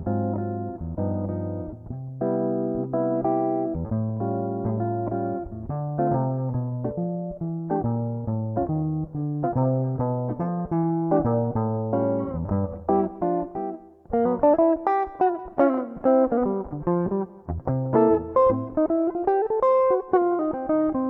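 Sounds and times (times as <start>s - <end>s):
electric guitar playing: 0.0s - 21.0s.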